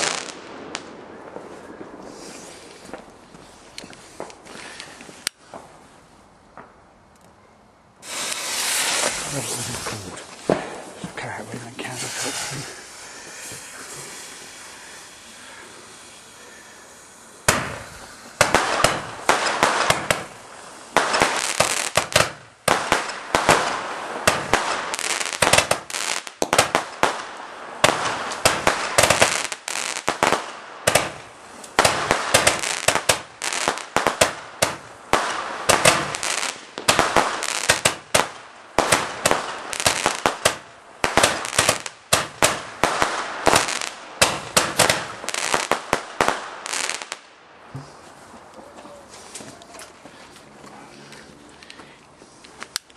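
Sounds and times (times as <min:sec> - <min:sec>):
fireworks bangs and crackles: 0:00.0 - 0:05.8, 0:08.0 - 0:48.0
faint fireworks hiss: 0:00.0 - 0:07.0, 0:08.0 - 0:52.9.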